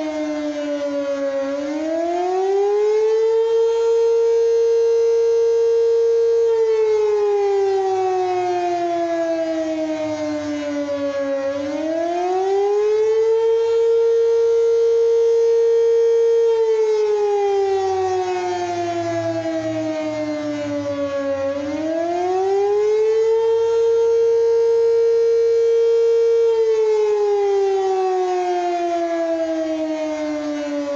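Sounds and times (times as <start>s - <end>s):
emergency siren: 0.0s - 30.9s.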